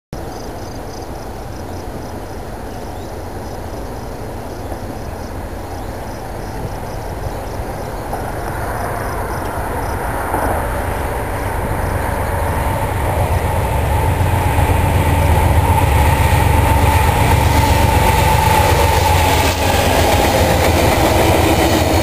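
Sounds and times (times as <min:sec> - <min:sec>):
freight train rumbling past: 0:00.2 - 0:22.0.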